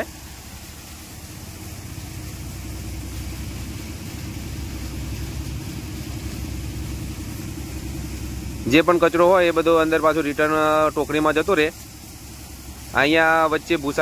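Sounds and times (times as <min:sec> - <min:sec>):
thresher machine rumbling: 0:00.0 - 0:14.0.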